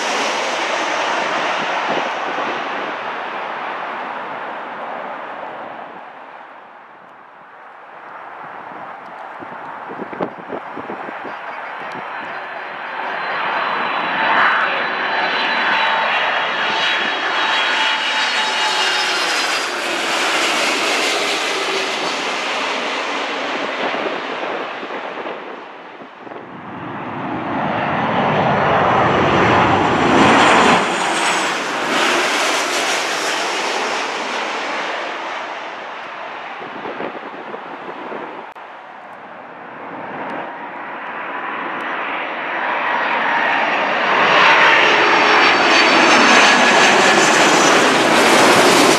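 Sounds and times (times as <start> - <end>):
jet airliner passing overhead: 0.0 - 48.9.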